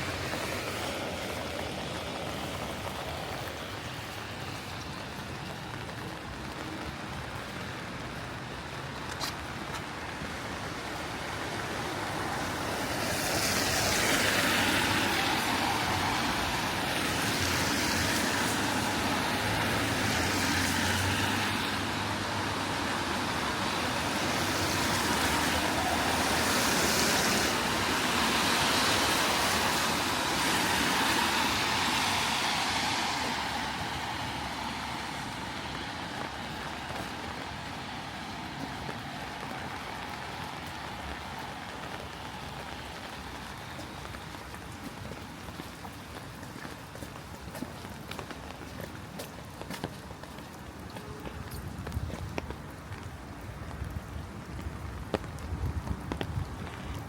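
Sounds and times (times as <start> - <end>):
steady rain: 0.0 - 57.0
tyres hissing on wet road: 0.0 - 57.0.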